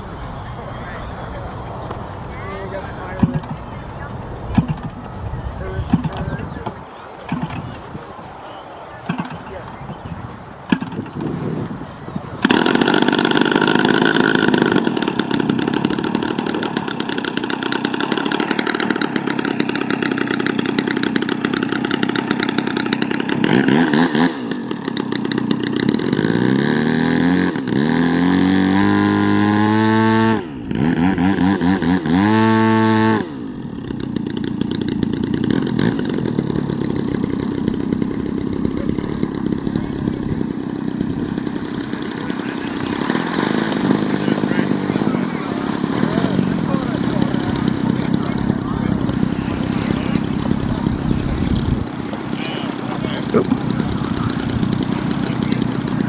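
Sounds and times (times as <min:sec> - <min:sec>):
model plane engine running: 0:00.0 - 0:56.0.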